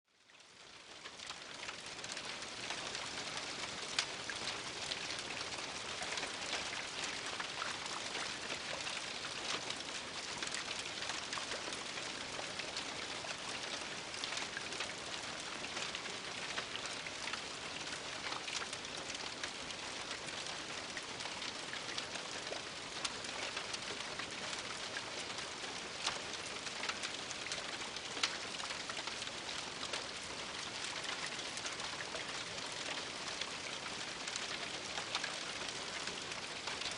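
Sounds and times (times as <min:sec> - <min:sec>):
rain on a roof: 0:00.1 - 0:36.9.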